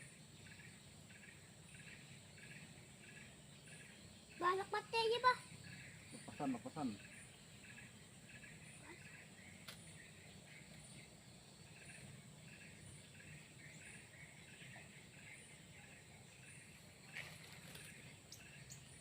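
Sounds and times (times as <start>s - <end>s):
high insect drone: 0.0s - 19.0s
regular chirp: 0.0s - 19.0s.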